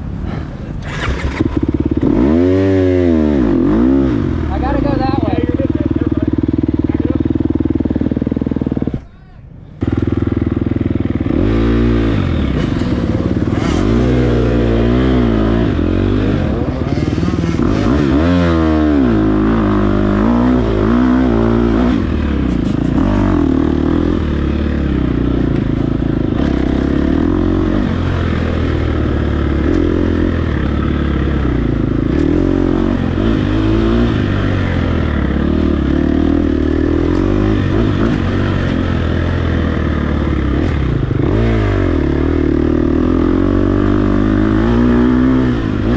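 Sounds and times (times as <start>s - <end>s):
dirt bike engine revving: 0.3s - 9.0s, 9.8s - 45.9s.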